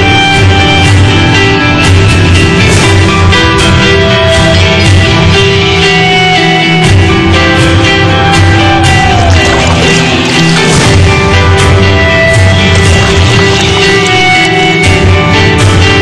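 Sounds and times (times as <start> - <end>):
instrumental music: 0.0 - 16.0.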